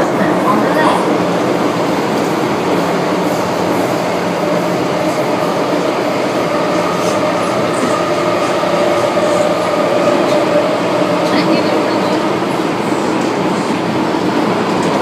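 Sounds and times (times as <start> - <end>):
subway train wheels rumbling: 0.0 - 15.0.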